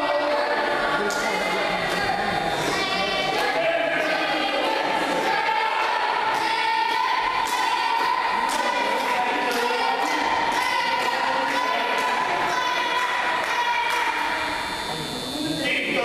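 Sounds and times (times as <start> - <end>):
choir-like singing: 0.0 - 14.9.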